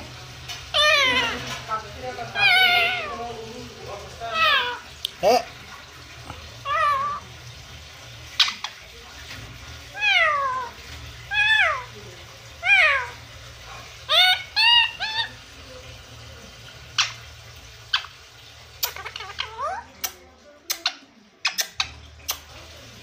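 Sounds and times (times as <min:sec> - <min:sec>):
parakeet calling: 0:00.6 - 0:07.6, 0:08.2 - 0:08.9, 0:09.9 - 0:15.6, 0:16.8 - 0:22.4.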